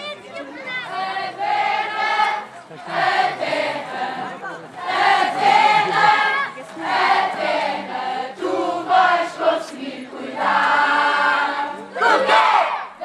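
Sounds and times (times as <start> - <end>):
children and adults singing: 0.6 - 13.0.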